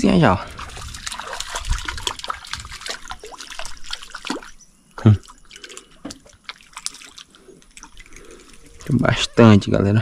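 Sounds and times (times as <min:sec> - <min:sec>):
water dripping and splashing: 0:00.0 - 0:09.2.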